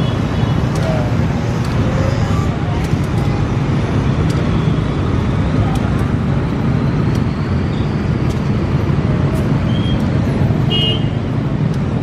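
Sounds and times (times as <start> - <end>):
locomotive diesel engine rumbling: 0.0 - 12.0.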